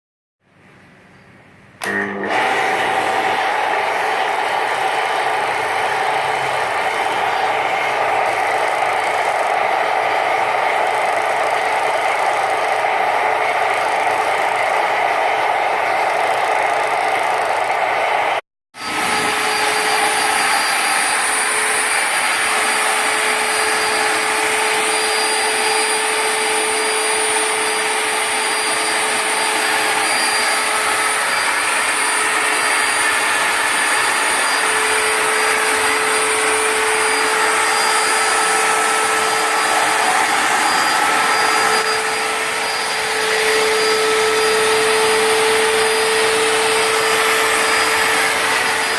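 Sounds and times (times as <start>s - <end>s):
jet engine rushing and whining: 1.8s - 48.9s.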